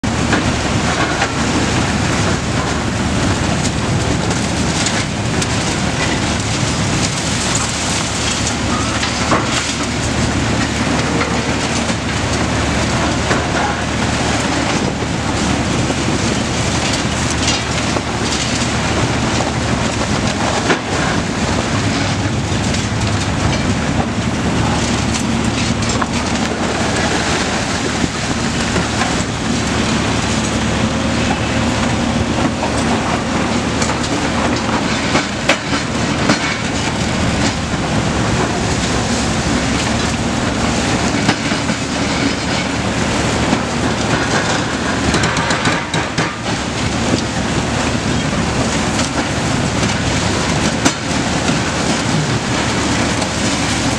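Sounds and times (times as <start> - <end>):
diesel engines under load: 0.0 - 53.9.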